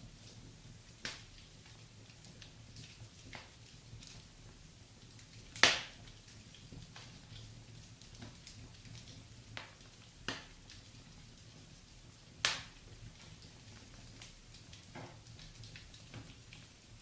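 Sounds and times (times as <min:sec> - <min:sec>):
fire crackling: 0:00.0 - 0:17.0
sharp pops of fire: 0:00.2 - 0:16.7.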